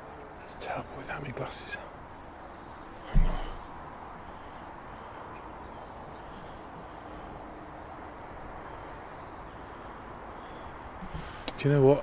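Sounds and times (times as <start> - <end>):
faint bird chirps: 0.0 - 11.4
outdoor background hiss: 0.0 - 12.0.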